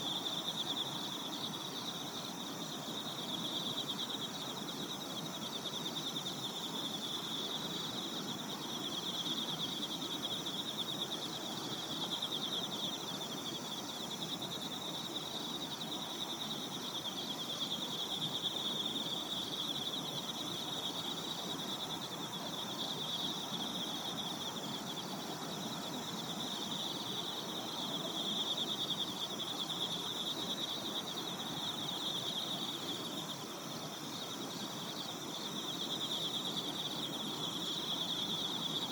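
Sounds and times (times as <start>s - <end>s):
insects trilling: 0.0s - 38.9s
soft ambient hiss: 0.0s - 38.9s.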